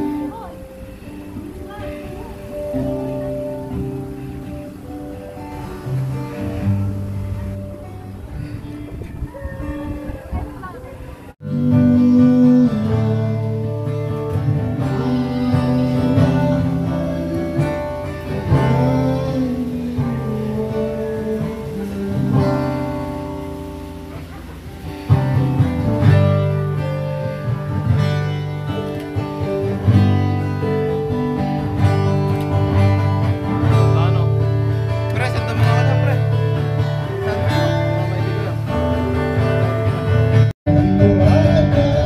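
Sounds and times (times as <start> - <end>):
acoustic guitar music: 0.0 - 42.0.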